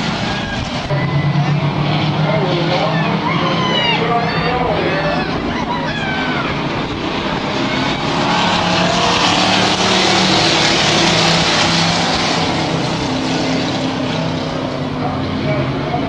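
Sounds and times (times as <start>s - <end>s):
race truck engines running hard: 0.0s - 16.0s.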